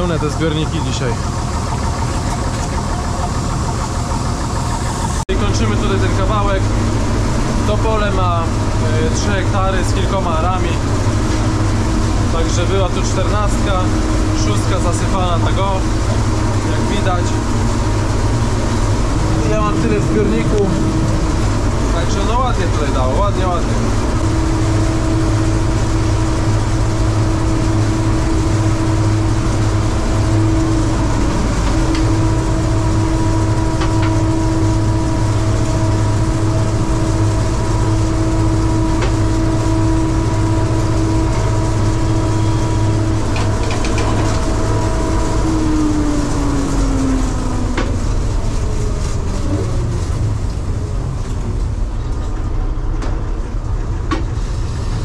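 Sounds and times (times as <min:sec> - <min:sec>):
drive whine: 0:00.0 - 0:55.0
harvester engine drone: 0:00.0 - 0:55.0.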